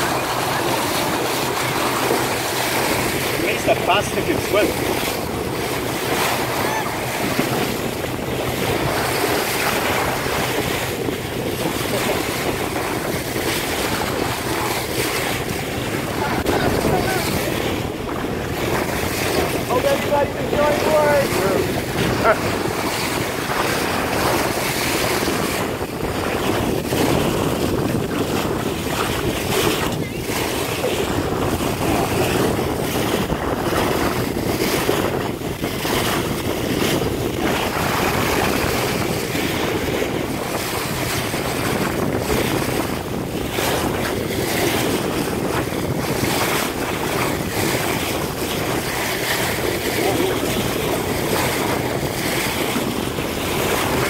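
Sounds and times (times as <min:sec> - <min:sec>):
water rushing along boat hull: 0:00.0 - 0:54.0
wind buffeting microphone: 0:00.0 - 0:54.0.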